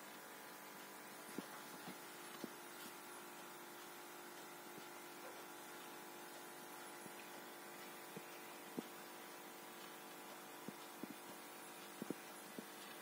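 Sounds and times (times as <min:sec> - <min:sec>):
aquarium equipment hum: 0:00.0 - 0:13.0.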